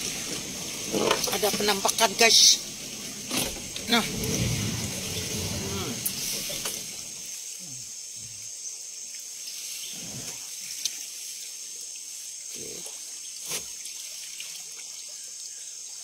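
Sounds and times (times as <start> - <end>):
steady high hiss: 0.0 - 13.2.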